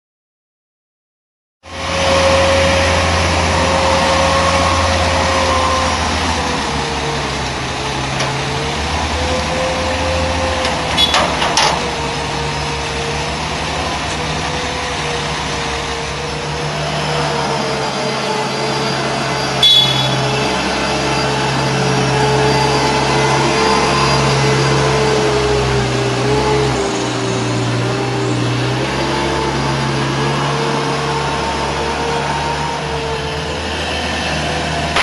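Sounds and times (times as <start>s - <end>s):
forklift hum and whine: 1.7s - 35.0s.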